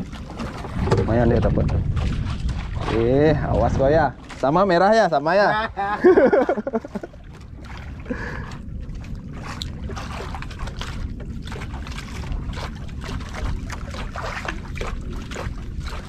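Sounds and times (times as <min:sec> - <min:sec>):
sea rushing: 0:00.0 - 0:16.0
water splashing against boat: 0:00.0 - 0:16.0
wind buffeting microphone: 0:00.0 - 0:16.0.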